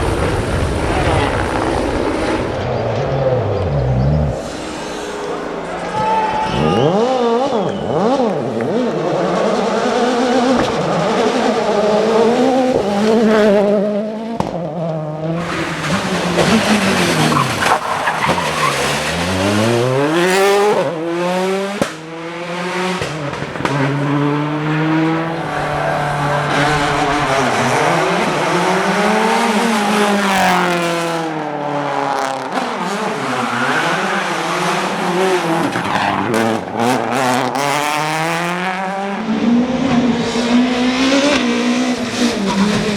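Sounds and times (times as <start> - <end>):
tyres skidding: 0.0 - 13.7, 15.1 - 31.4, 32.3 - 42.9
rally car engine revving: 0.0 - 42.9.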